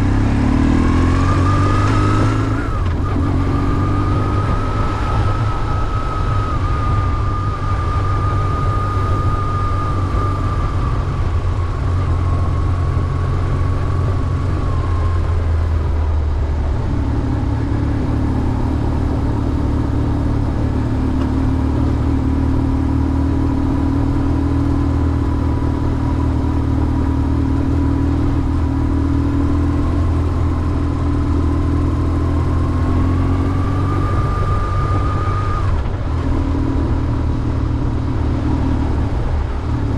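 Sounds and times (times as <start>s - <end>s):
motorcycle engine running: 0.0s - 39.9s
thin whine: 0.8s - 37.2s.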